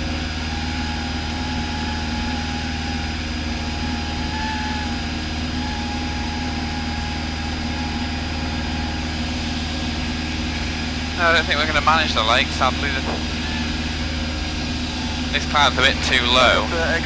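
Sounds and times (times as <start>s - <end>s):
airplane engine droning in cabin: 0.0s - 17.0s.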